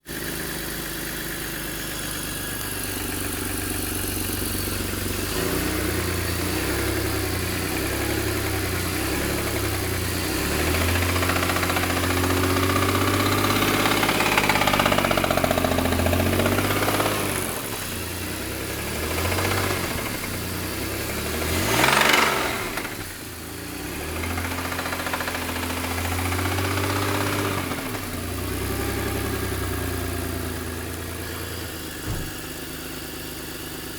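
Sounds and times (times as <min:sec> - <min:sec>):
engine revving: 0:00.0 - 0:33.9.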